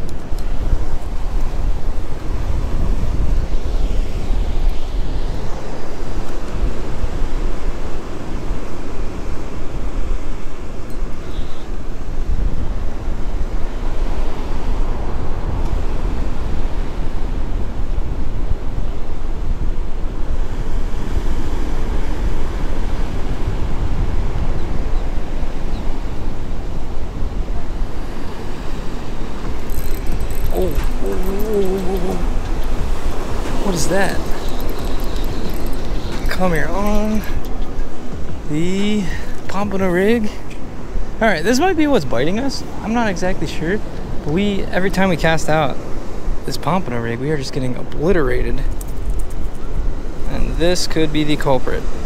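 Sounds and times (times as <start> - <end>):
ocean surf breaking: 0.0 - 52.0
wind buffeting microphone: 0.0 - 52.0.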